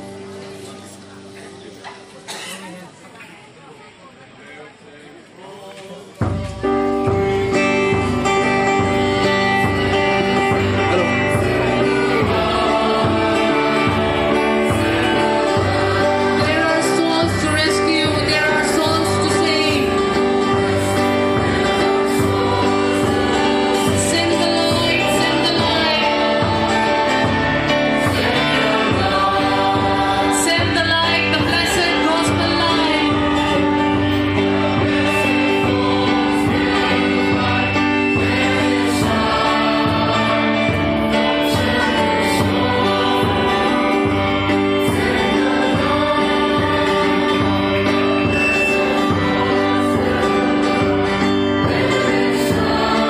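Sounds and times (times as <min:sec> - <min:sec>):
choir singing a gospel hymn: 0:07.5 - 0:53.0.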